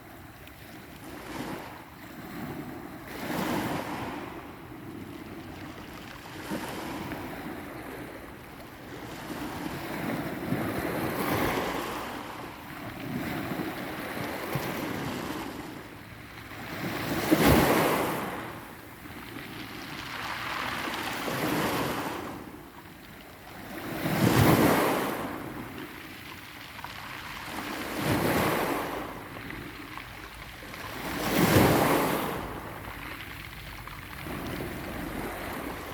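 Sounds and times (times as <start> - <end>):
sea waves breaking on shore: 0.0 - 35.9.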